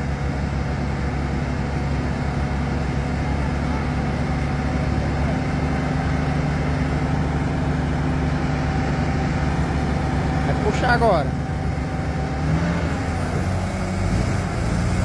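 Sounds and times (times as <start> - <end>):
heavy truck engine running: 0.0 - 15.0.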